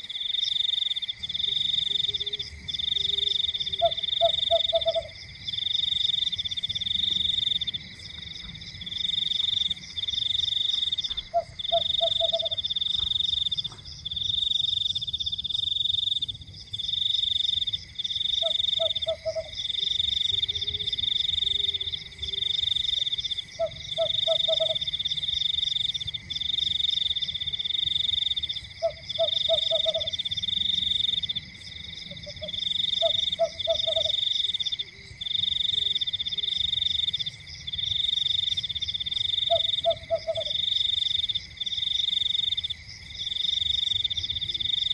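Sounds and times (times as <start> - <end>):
frog croaking: 0.0 - 16.3, 16.9 - 44.9.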